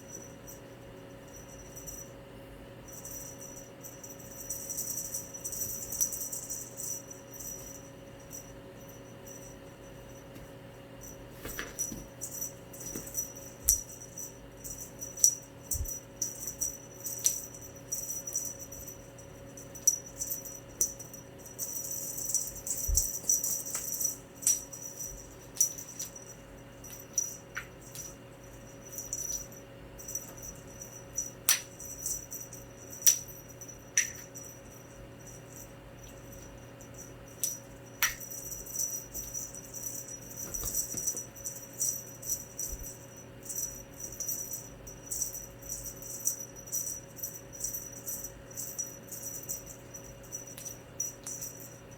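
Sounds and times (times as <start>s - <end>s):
wand toy jingling and rattling: 2.9s - 9.7s, 11.0s - 51.9s.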